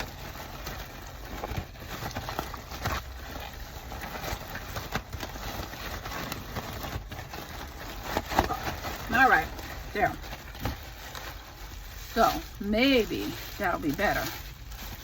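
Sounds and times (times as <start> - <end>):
food rattling in a container: 0.0 - 15.0.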